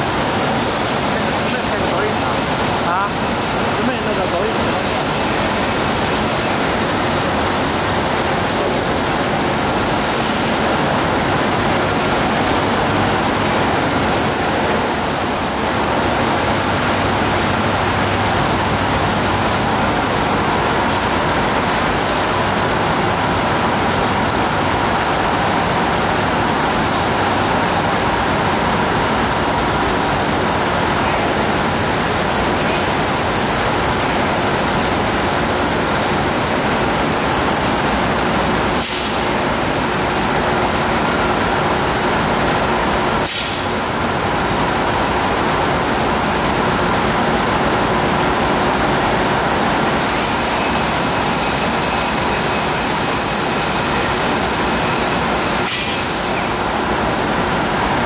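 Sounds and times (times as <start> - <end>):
water-jet cutting machine hissing: 0.0 - 58.0.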